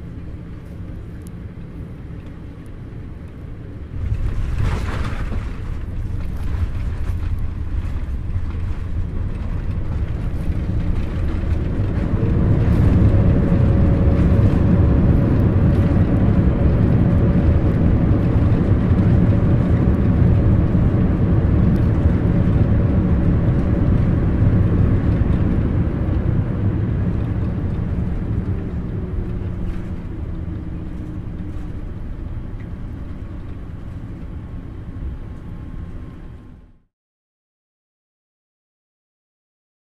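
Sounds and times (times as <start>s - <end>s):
jet engines rumbling in cabin: 0.0s - 36.9s.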